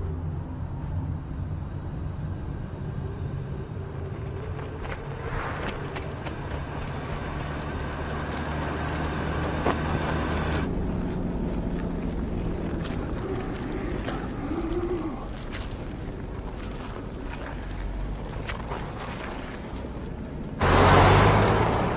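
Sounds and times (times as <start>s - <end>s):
vehicle engine droning: 0.0s - 21.9s.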